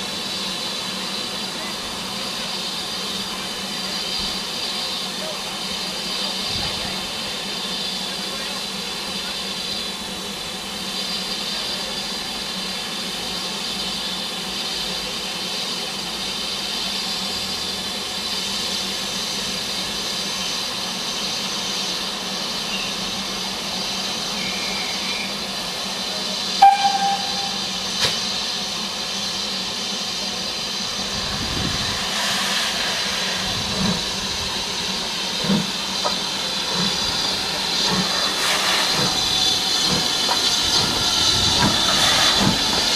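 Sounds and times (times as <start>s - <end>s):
locomotive exhaust chuffs: 0.0s - 42.9s
steam locomotive hissing steam: 0.0s - 42.9s.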